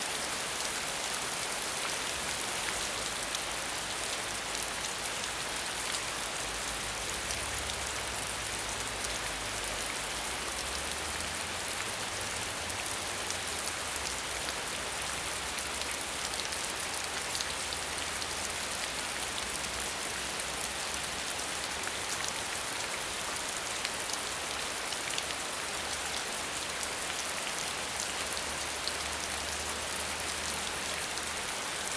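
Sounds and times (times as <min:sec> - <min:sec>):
rain on hard surfaces: 0:00.0 - 0:31.9.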